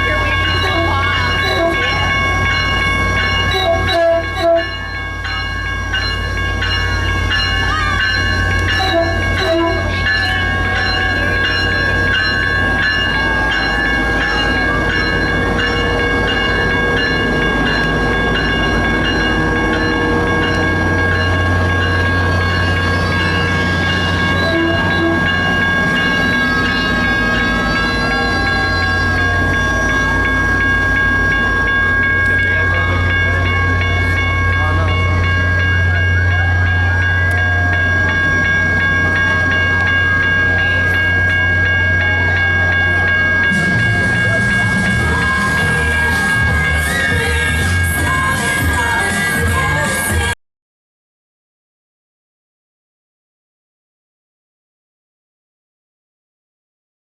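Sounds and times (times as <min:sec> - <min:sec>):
diesel locomotive engine rumble: 0:00.0 - 0:50.4.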